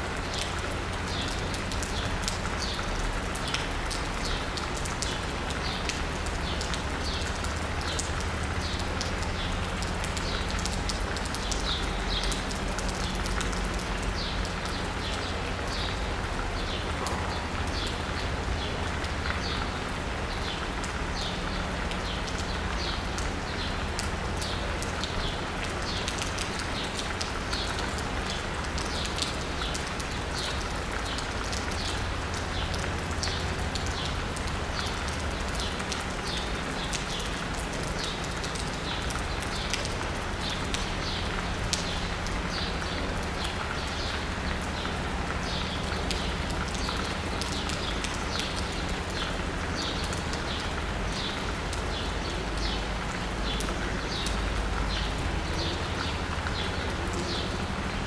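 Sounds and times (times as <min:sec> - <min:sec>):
distant city traffic rumble: 0:00.0 - 0:58.0
rain pattering on asphalt and roof: 0:00.0 - 0:58.0.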